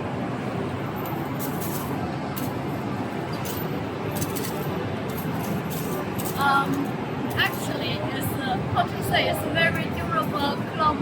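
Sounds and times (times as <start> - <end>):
busy exhibition hall din: 0.0 - 11.0.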